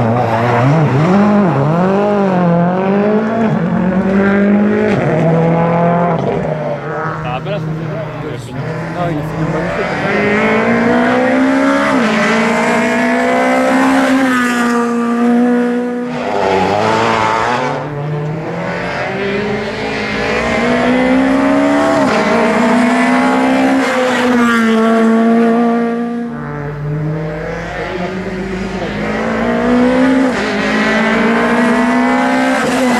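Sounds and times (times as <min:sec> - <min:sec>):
rally car engine revving: 0:00.0 - 0:32.9.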